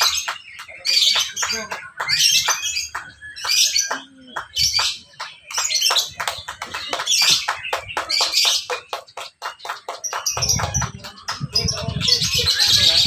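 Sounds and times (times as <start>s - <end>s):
bird chirping and trilling: 0.0s - 13.0s.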